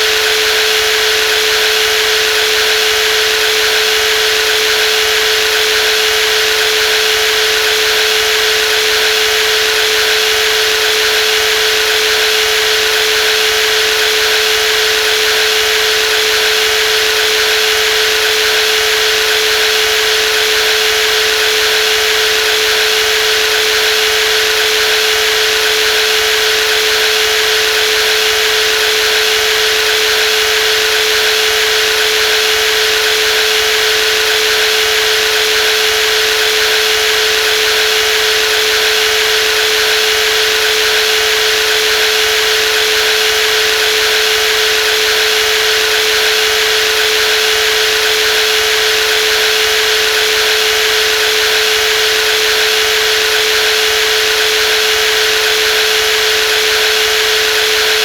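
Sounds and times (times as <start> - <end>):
jigsaw motor whine: 0.0 - 58.0.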